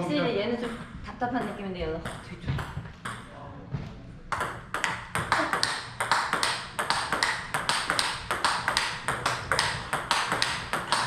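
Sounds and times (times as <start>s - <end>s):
ball bouncing on table: 0.6s - 3.3s, 4.3s - 11.0s
ping-pong ball hitting rackets: 0.6s - 3.3s, 4.3s - 11.0s.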